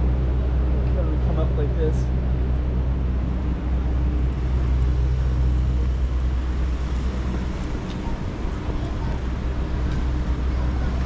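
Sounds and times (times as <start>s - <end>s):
low mechanical hum: 0.0s - 11.0s
street background noise: 0.0s - 11.0s.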